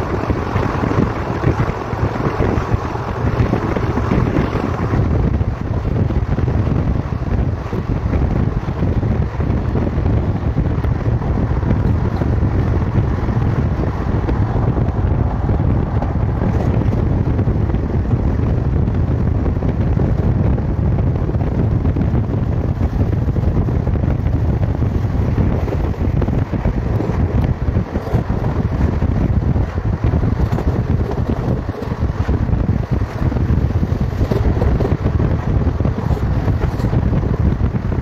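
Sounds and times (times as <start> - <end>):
train coaches rumbling on track: 0.0 - 38.0
wind buffeting microphone: 0.0 - 38.0.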